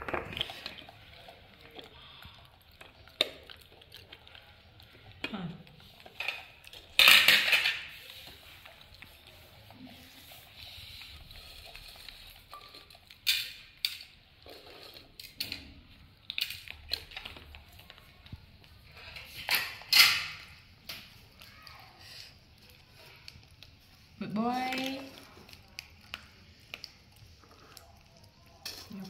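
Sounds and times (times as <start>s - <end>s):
noodles crackling and crunching: 0.0s - 29.0s.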